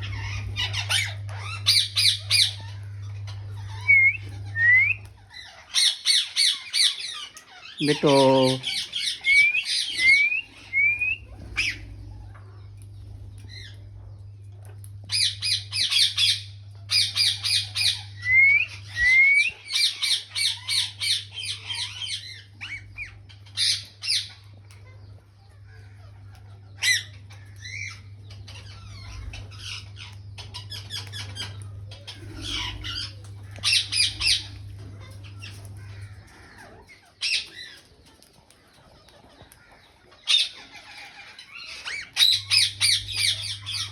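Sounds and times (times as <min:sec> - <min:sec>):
parakeets screeching: 0:00.0 - 0:38.5, 0:39.2 - 0:43.9
steady low hum: 0:00.0 - 0:43.9.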